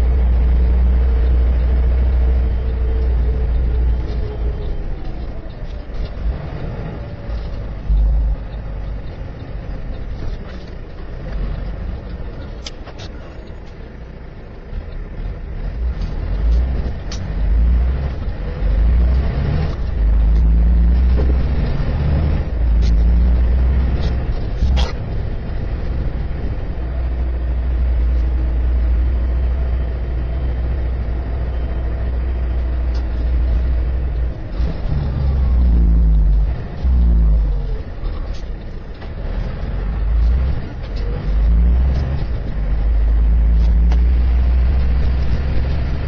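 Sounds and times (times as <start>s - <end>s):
heavy truck engine rumbling: 0.0s - 46.0s.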